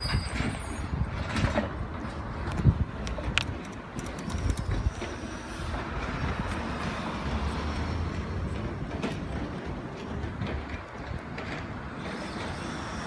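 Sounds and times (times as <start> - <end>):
hydraulic arm lifting cart: 0.0 - 13.0.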